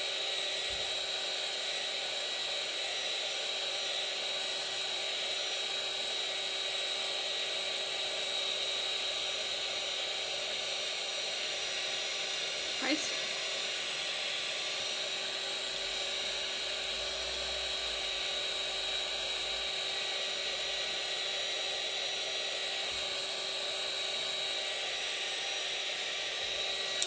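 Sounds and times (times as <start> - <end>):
heat tool whining: 0.0 - 27.0.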